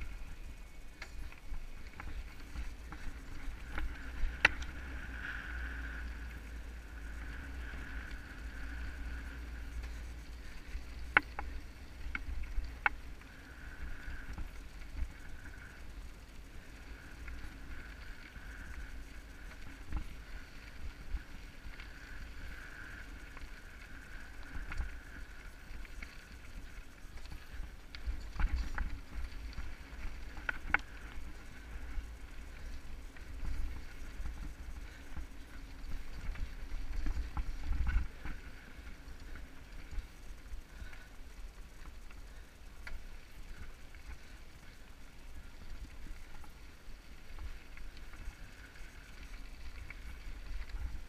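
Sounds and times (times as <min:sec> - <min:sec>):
bike rattling over rocks: 0:00.0 - 0:51.0.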